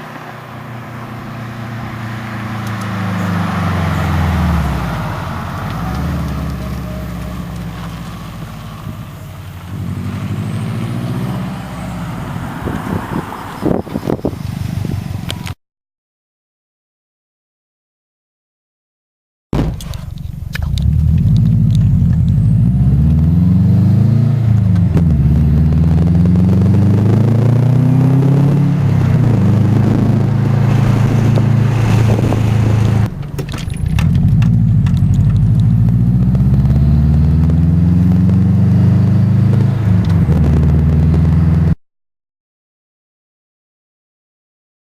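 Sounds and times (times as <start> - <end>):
car engine revving: 0.0 - 15.5, 19.6 - 41.8.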